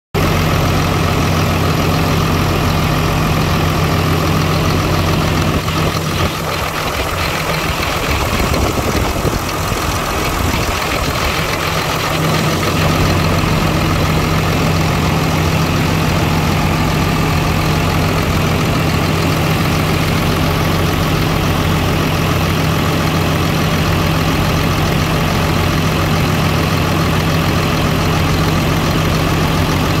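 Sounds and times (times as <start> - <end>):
diesel truck engine idling: 0.2 - 30.0.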